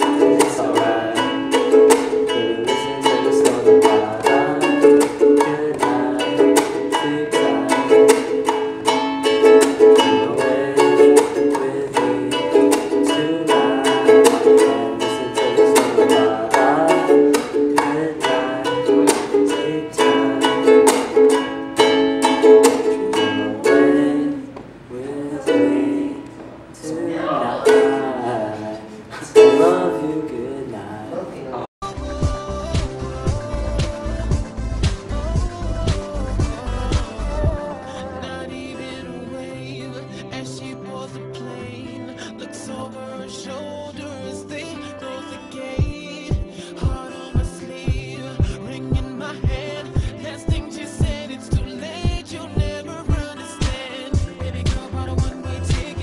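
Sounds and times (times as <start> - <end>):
ukulele strumming: 0.0 - 24.7, 25.3 - 30.3, 32.0 - 40.1, 44.8 - 56.0.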